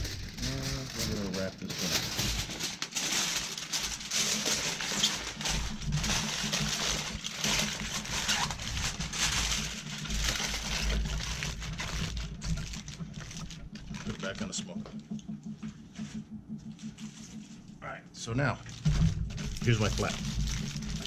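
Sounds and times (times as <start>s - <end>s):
aluminium foil crinkling: 0.0s - 15.6s, 18.6s - 21.0s.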